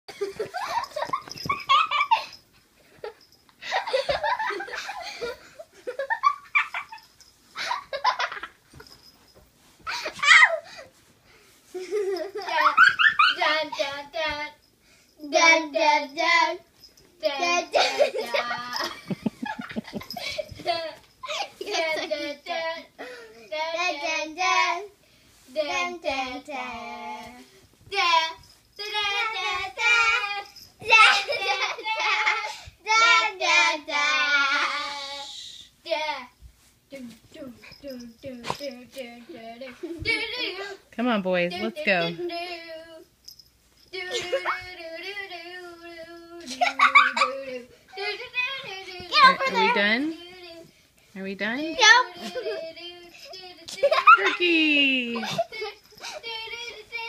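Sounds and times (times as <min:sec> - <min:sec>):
dogs playing and wrestling: 0:00.1 - 0:35.1, 0:35.8 - 0:57.0.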